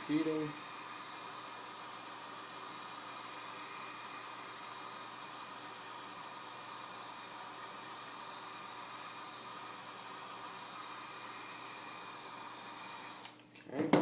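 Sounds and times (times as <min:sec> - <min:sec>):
heat gun blowing hot air: 0:00.0 - 0:14.0.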